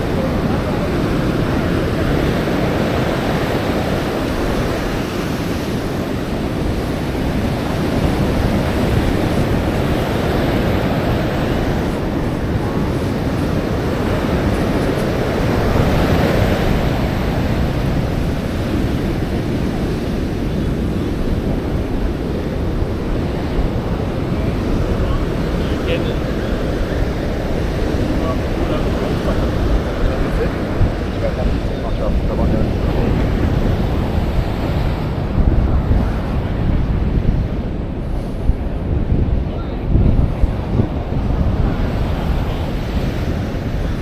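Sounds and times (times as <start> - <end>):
ocean surf washing on beach: 0.0 - 44.0
wind buffeting microphone: 0.0 - 44.0.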